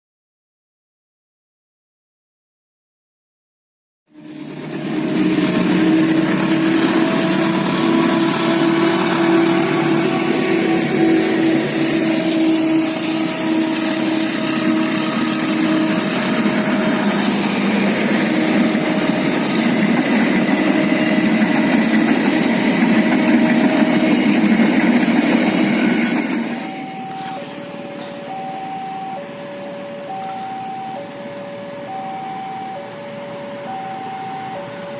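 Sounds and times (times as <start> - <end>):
diesel locomotive engine drone: 4.1 - 34.9
level-crossing alarm two tones: 5.0 - 34.9.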